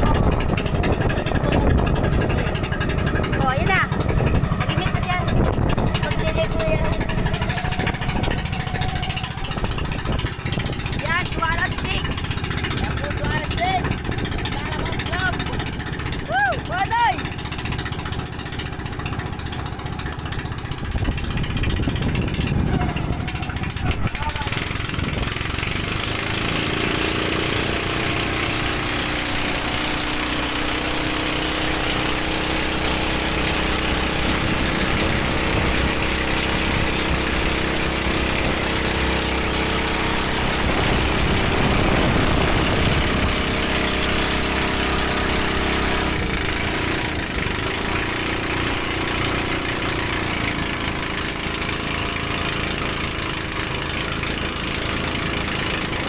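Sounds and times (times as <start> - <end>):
boat engine running: 0.0 - 56.0
water rushing: 0.0 - 56.0
wind: 0.0 - 56.0.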